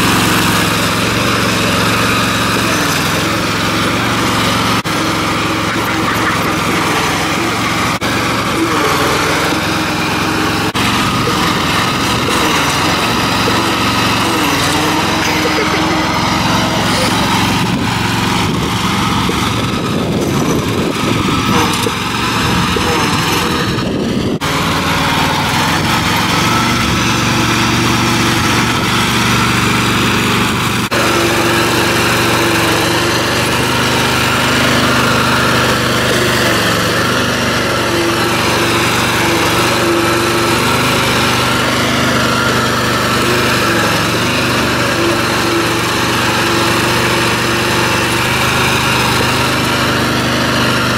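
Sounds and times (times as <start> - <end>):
riding lawn mower engine running: 0.0 - 50.9.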